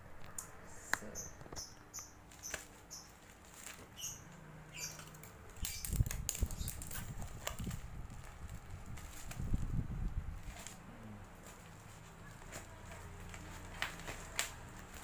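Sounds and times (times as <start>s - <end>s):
plastic wrapping crinkling: 2.2s - 15.0s.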